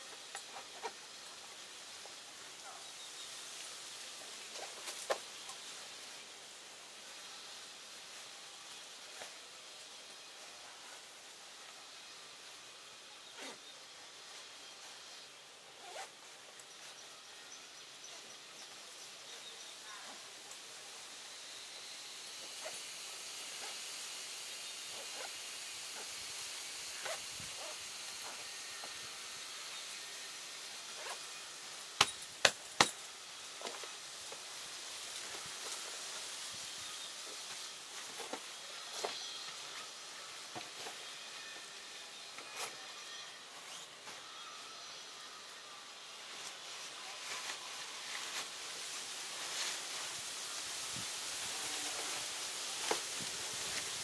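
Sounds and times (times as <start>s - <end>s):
wind hiss: 0.0s - 42.7s, 45.0s - 54.0s
leaves stirring in breeze: 0.0s - 42.8s, 45.8s - 54.0s.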